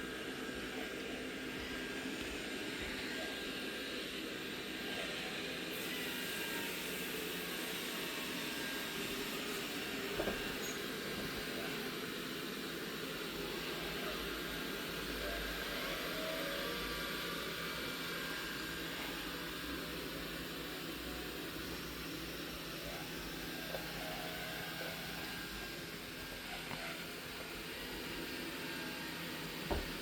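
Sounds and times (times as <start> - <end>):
robot vacuum cleaner whirring: 0.0 - 30.0.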